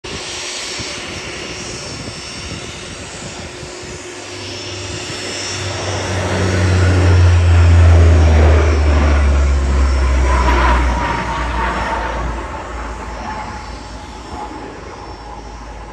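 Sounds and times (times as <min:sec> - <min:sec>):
propeller aircraft flying past: 0:00.3 - 0:15.9.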